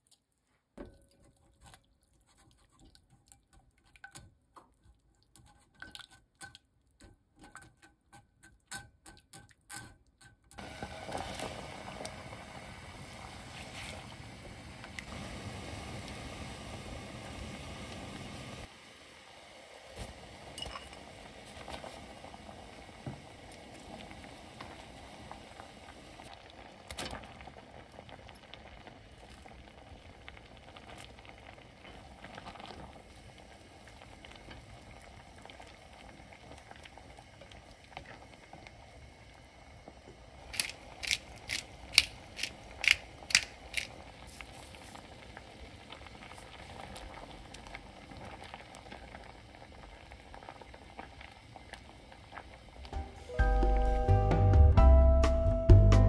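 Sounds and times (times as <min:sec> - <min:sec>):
soup bubbling in a pot: 0:00.9 - 0:53.9.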